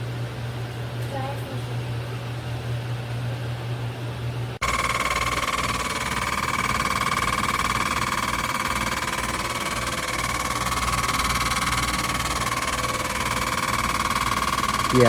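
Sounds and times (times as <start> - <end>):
air conditioner whine: 0.0 - 15.0
fan noise: 0.0 - 15.0.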